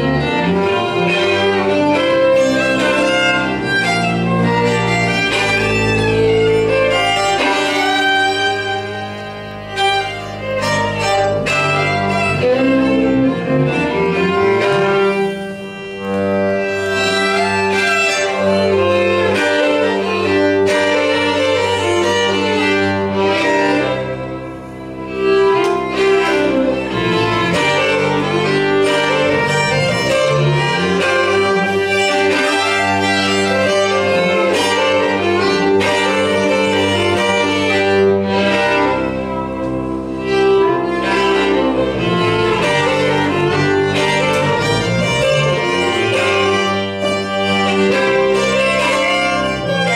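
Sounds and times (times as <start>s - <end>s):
bowed upright bass: 0.0s - 49.9s
fiddles playing melody: 0.0s - 49.9s.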